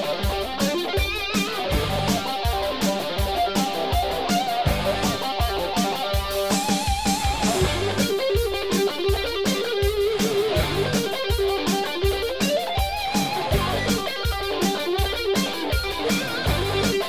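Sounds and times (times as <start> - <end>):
steady drum beat: 0.0 - 17.0
wavering electric guitar lead: 0.0 - 17.0.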